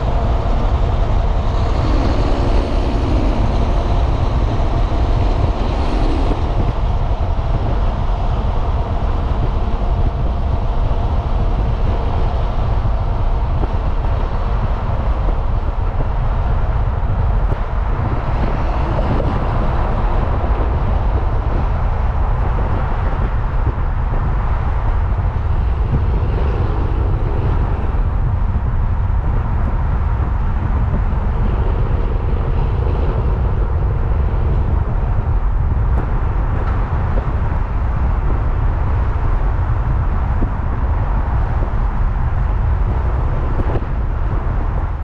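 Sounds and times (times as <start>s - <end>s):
vehicle road and engine rumble: 0.0s - 45.0s.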